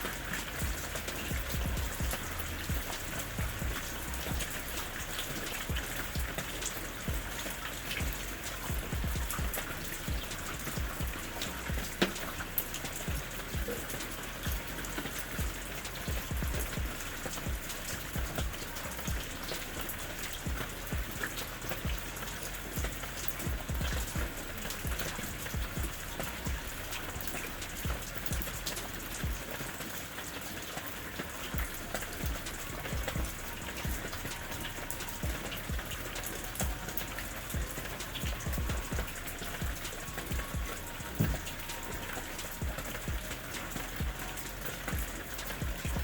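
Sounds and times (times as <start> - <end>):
rain on a hard surface: 0.0 - 46.0.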